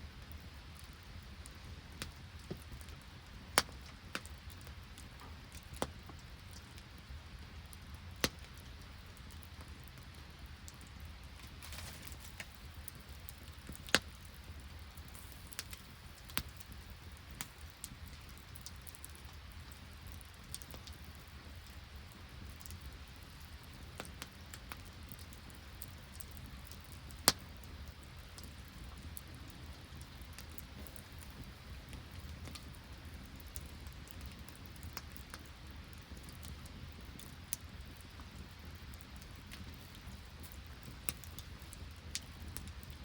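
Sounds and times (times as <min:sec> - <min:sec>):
campfire crackling and popping: 0:00.0 - 0:43.0
light rain: 0:00.0 - 0:43.0.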